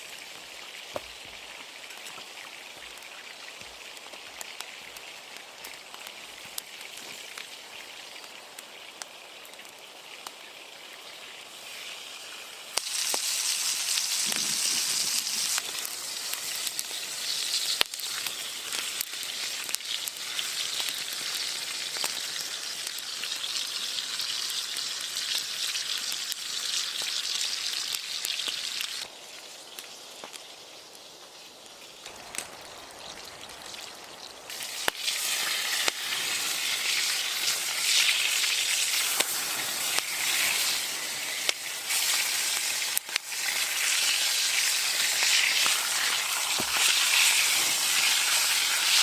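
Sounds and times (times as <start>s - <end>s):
background hiss with ticks: 0.0s - 49.0s
food sizzling in a pan: 0.0s - 49.0s.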